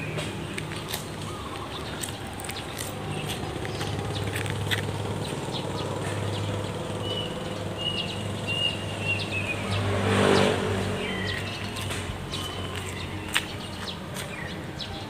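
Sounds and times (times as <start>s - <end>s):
small birds chirping: 0.0s - 15.0s
vehicle engine passing by: 0.0s - 15.0s.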